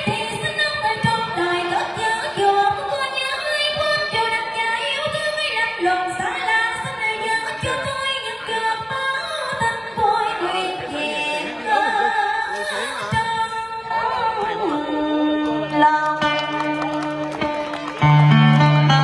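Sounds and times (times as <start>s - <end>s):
woman singing through pa speakers: 0.0s - 17.2s.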